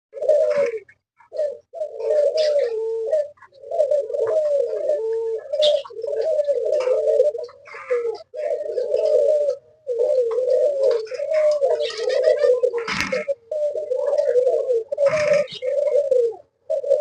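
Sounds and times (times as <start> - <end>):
doves cooing: 0.1 - 17.0
small birds chirping: 0.2 - 17.0.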